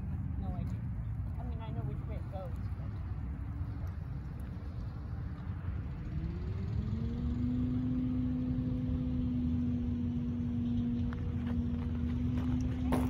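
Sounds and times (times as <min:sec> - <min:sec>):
low wind rumble: 0:00.0 - 0:13.0
motor engine running: 0:00.0 - 0:13.0.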